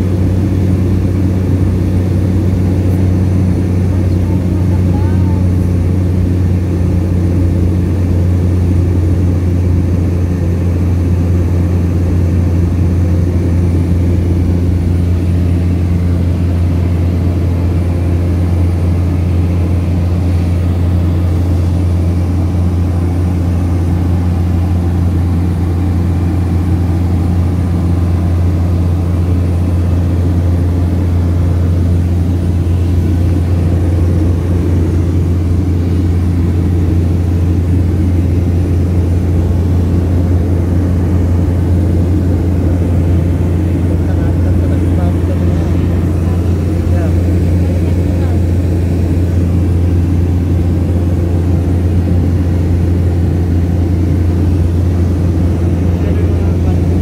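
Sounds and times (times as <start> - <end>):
propeller plane engine drone: 0.0 - 57.0.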